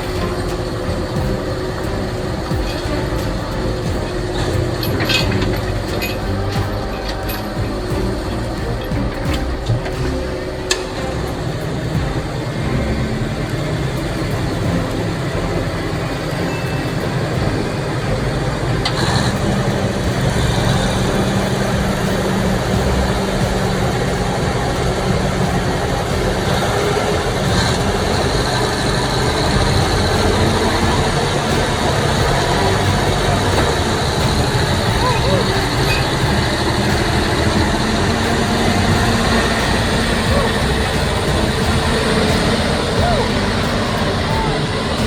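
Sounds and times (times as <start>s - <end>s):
truck engine running: 0.0s - 45.0s.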